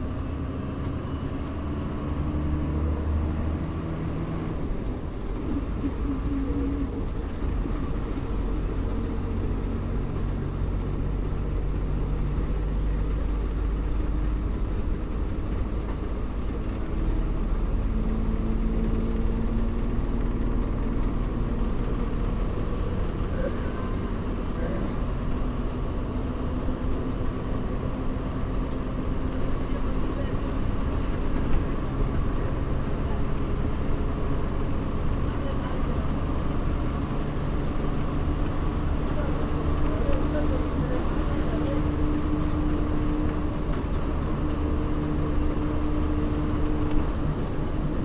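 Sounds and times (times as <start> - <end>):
bus engine rumble: 0.0 - 48.0
road noise: 0.0 - 48.0.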